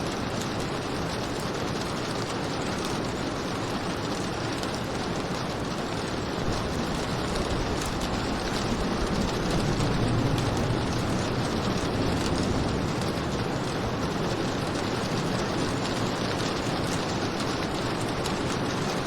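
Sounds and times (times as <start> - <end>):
heavy rain hissing: 2.4 - 19.0.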